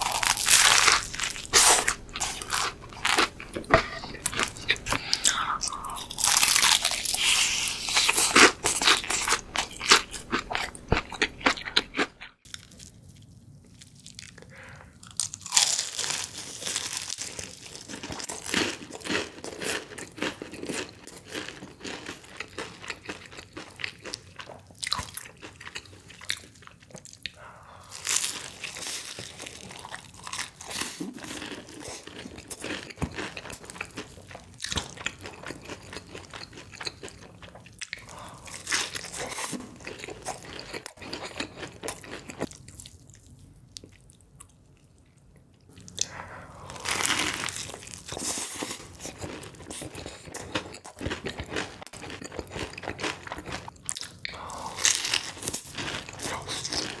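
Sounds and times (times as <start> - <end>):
chewing: 0.0 - 15.9, 17.1 - 57.0
crispy chicken crunching: 0.0 - 44.1, 45.7 - 57.0.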